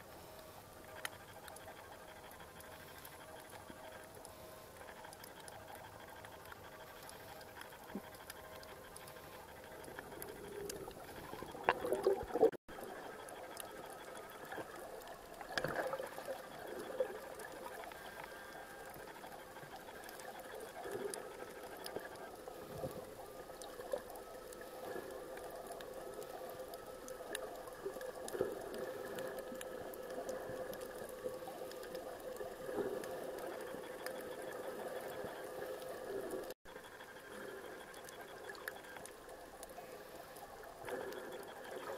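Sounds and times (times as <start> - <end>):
muffled underwater hum: 0.0 - 41.9
underwater clicks and crackles: 0.1 - 41.9.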